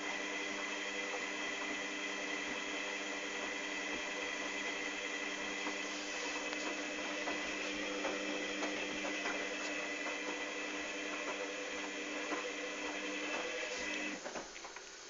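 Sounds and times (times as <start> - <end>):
washing machine motor whine: 0.0 - 15.0.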